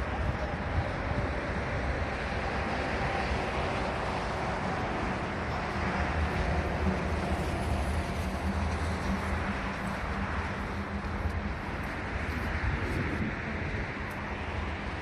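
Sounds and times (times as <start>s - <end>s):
distant road traffic: 0.0s - 15.0s
vehicle engine hum: 0.0s - 15.0s.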